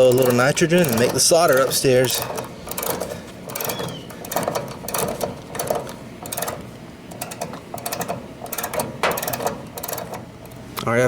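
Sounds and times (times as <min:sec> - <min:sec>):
ratcheting wrench clicking: 0:00.0 - 0:10.9.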